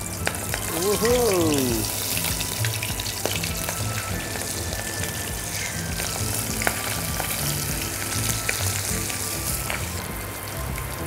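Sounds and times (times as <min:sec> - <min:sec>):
oil popping: 0:00.0 - 0:11.0
prawns sizzling in hot oil: 0:00.0 - 0:11.0.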